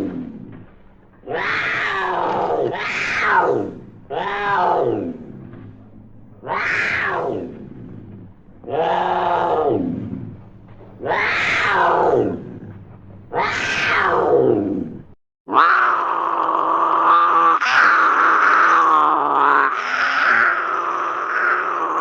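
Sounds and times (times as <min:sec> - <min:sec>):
steady cougar call: 0:00.0 - 0:22.0
cougar yowls: 0:01.2 - 0:05.5, 0:06.4 - 0:10.2, 0:11.0 - 0:22.0.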